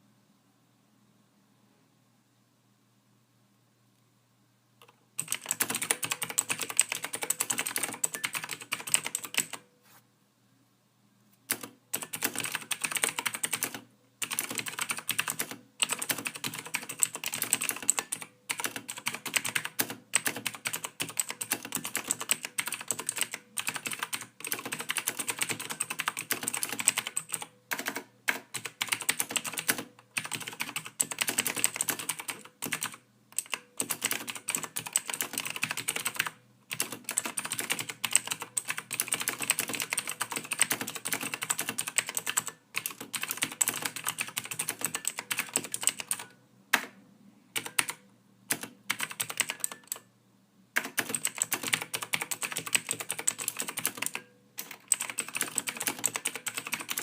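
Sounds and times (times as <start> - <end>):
typing on computer keyboard: 4.8 - 9.7, 11.5 - 47.0, 47.6 - 50.1, 50.8 - 57.0.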